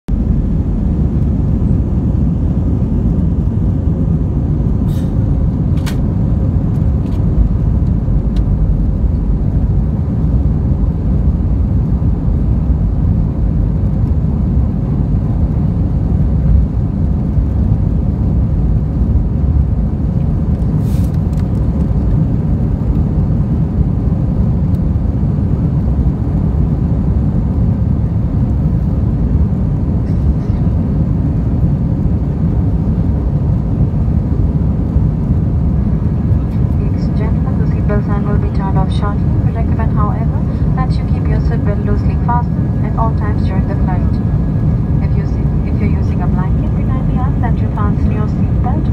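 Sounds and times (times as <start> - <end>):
jet engines and rushing air: 0.1 - 48.9.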